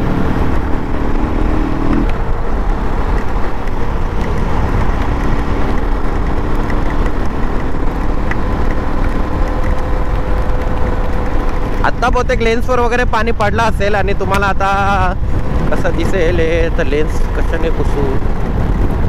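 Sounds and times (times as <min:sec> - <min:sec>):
motorcycle engine cruising: 0:00.0 - 0:19.0
wind rumble on microphone: 0:00.0 - 0:19.0.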